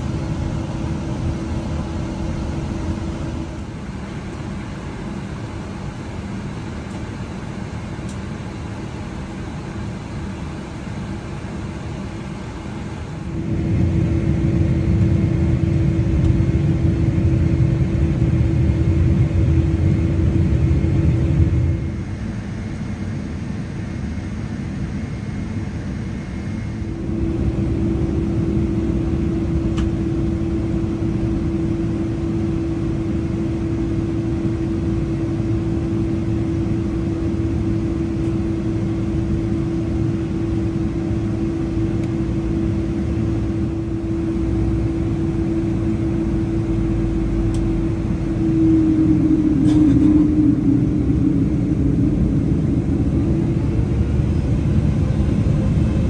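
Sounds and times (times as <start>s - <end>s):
jet engine drone in cabin: 0.0s - 56.0s.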